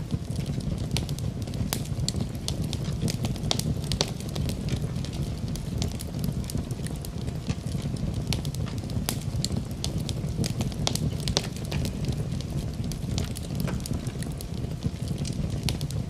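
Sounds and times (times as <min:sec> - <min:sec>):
fire crackling and popping: 0:00.0 - 0:16.0
low rumble of burning: 0:00.0 - 0:16.0.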